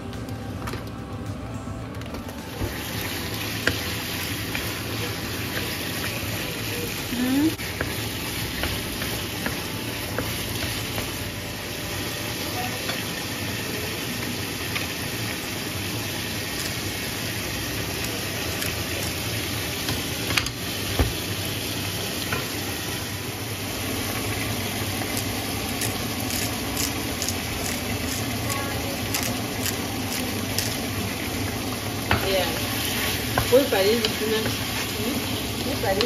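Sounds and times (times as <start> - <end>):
chicken and onion sizzling: 2.2 - 36.0.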